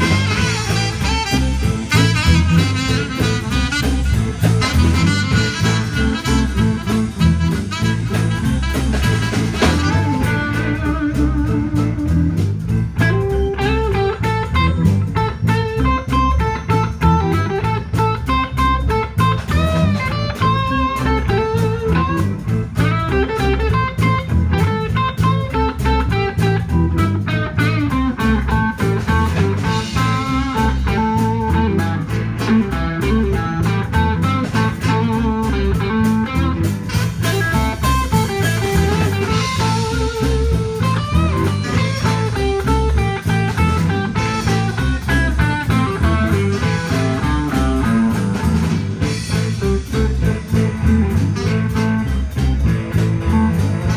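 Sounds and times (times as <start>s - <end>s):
blues band playing: 0.0s - 53.9s
lead guitar note runs: 0.0s - 53.9s.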